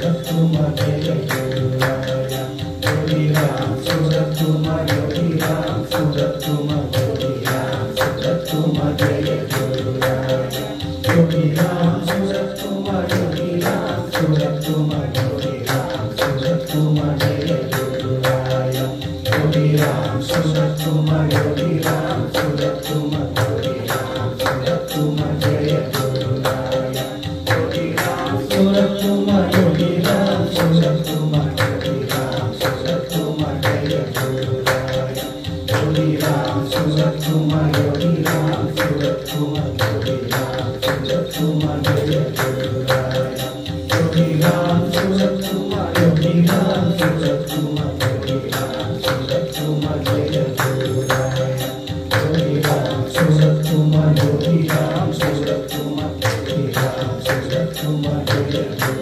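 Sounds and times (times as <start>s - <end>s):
devotional chanting: 0.0s - 59.0s
held drone tone: 0.0s - 59.0s
quick percussion beat: 0.0s - 59.0s.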